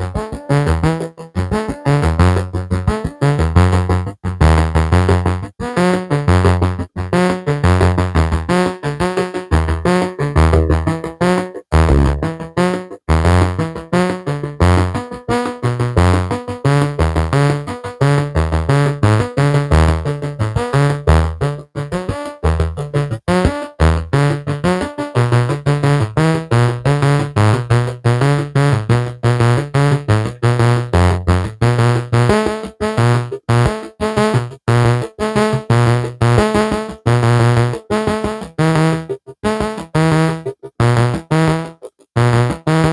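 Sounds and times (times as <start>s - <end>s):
plucked synthesizer notes: 0.0s - 42.9s
synth bass line: 0.0s - 42.9s.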